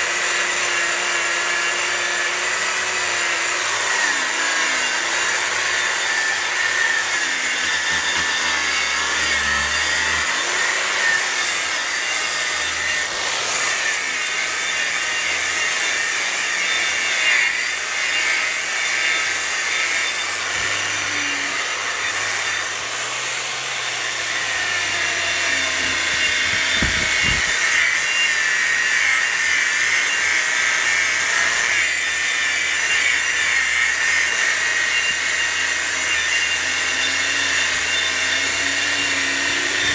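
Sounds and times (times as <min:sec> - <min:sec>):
angle grinder grinding wood: 0:00.0 - 0:39.9.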